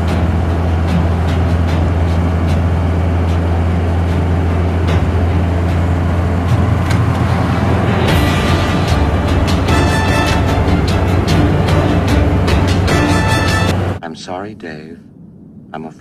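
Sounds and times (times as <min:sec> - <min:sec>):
motor vehicle droning: 0:00.0 - 0:14.0.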